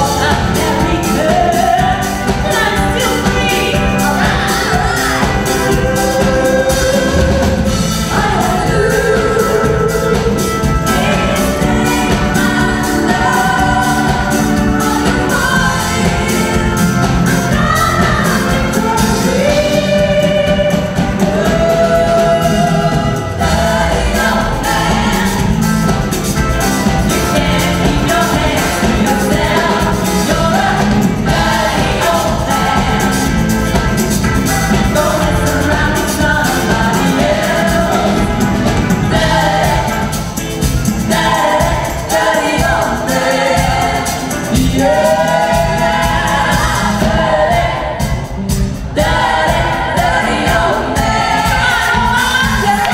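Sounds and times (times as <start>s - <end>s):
backing singers: 0.0s - 52.9s
drums: 0.0s - 52.9s
electric bass: 0.0s - 52.9s
keyboard: 0.0s - 52.9s
women singing lead: 0.0s - 52.9s.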